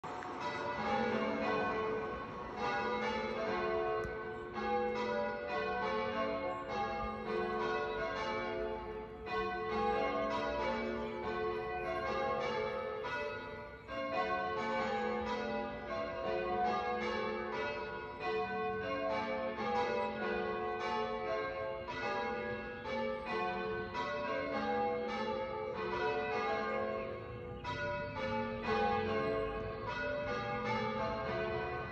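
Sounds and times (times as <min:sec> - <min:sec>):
church bells ringing: 0:00.0 - 0:31.9.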